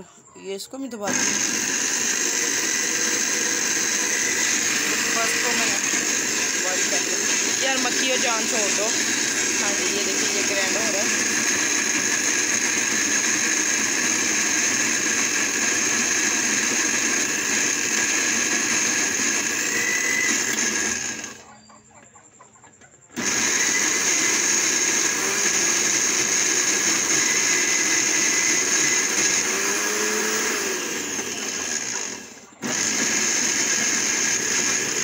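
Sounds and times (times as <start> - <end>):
mixer grinder motor running: 1.0 - 21.4, 23.1 - 35.0.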